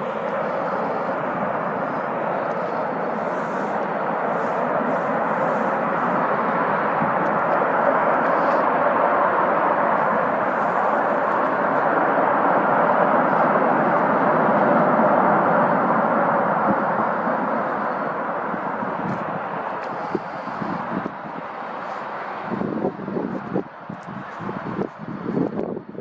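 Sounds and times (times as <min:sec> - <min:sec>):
jet airliner engine passing: 0:00.0 - 0:26.0.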